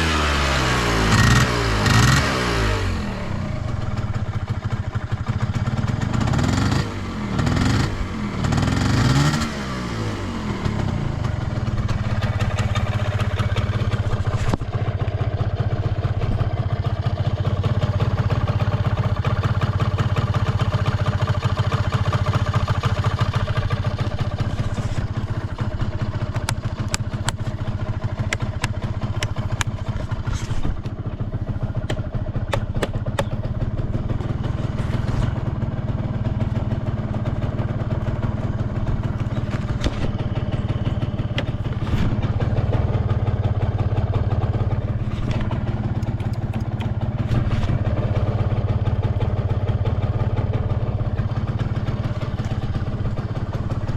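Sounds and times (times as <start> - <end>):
scooter engine idling: 0.0 - 53.9.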